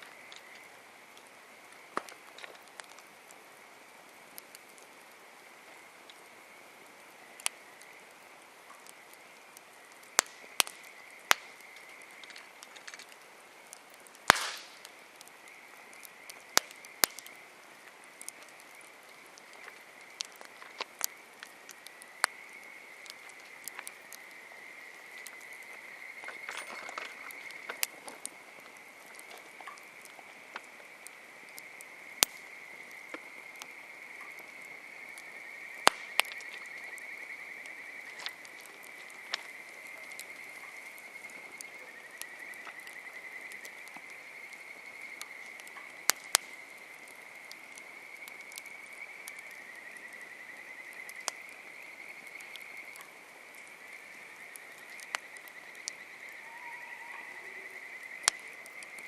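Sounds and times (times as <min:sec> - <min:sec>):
campfire crackling and popping: 0:00.0 - 0:59.0
chorus of small animals: 0:04.3 - 0:59.0.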